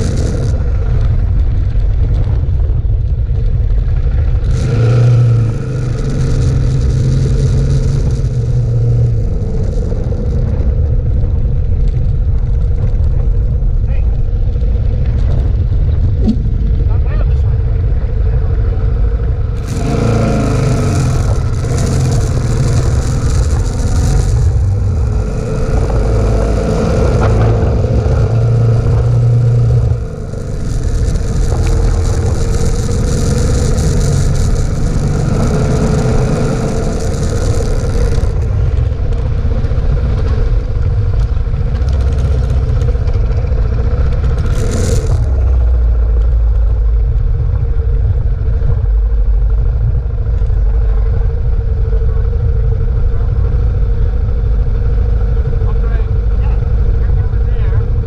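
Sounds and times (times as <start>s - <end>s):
dirt motorcycle engine: 0.0s - 58.0s
wind on microphone: 0.0s - 58.0s.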